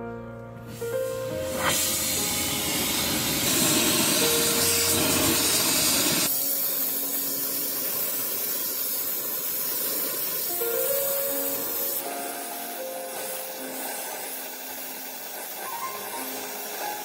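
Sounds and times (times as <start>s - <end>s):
torch flame hissing: 0.7s - 17.0s.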